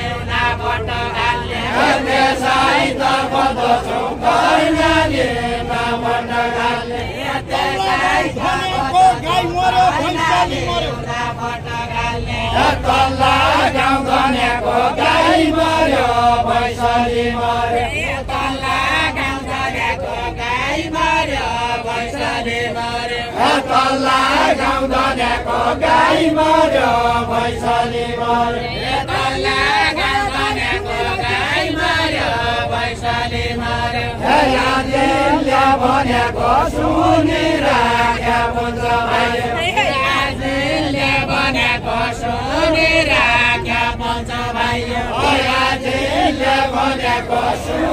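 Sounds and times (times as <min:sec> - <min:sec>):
voices singing a folk song: 0:00.0 - 0:47.9.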